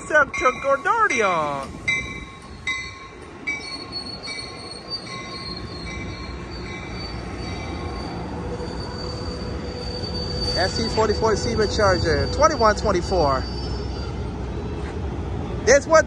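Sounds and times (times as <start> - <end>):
train wheels rumbling on rail: 0.0 - 16.0
high wheel squeals: 1.7 - 15.0.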